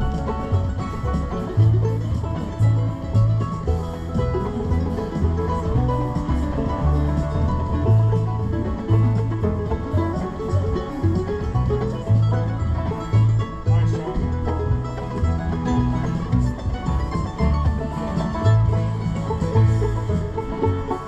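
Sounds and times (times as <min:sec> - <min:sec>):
acoustic guitar: 0:00.0 - 0:21.0
banjo picking: 0:00.0 - 0:21.0
low bass notes: 0:00.0 - 0:21.0.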